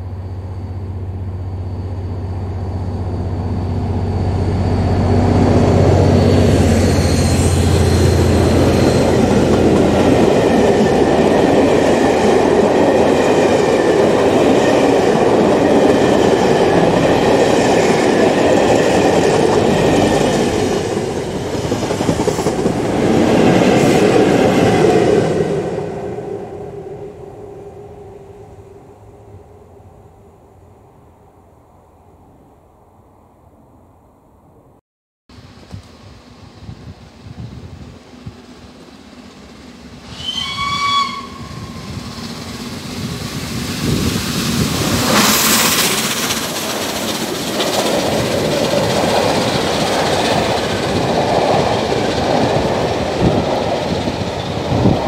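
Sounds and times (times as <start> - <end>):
train wheels rumbling on rails: 0.0 - 28.6, 35.3 - 55.0
diesel locomotive engine hum: 0.0 - 34.7, 35.3 - 55.0.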